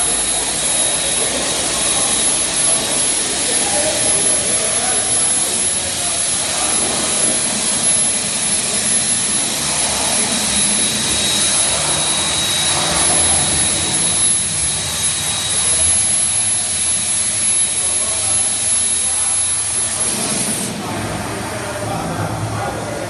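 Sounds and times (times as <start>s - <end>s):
plasma torch cutting steel: 0.0s - 20.9s.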